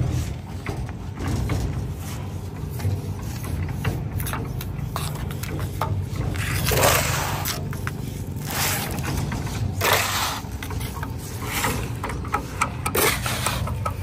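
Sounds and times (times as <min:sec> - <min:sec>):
low machine rumble: 0:00.0 - 0:14.0.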